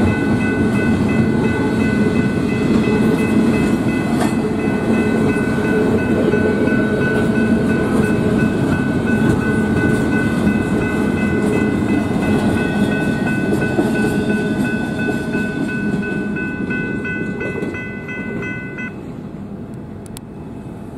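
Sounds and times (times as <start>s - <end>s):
crossing signal bell ringing: 0.0s - 19.2s
train wheels rumbling on rails: 0.0s - 20.9s.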